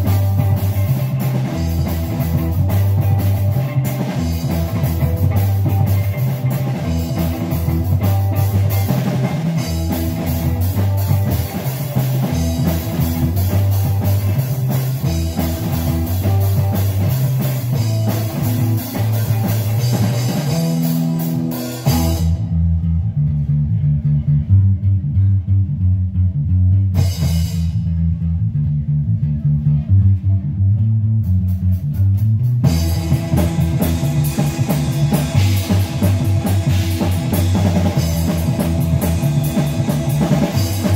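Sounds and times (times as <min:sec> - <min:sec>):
rock band playing: 0:00.0 - 0:25.7, 0:26.7 - 0:30.1, 0:31.1 - 0:40.9
bass guitar: 0:00.0 - 0:40.9.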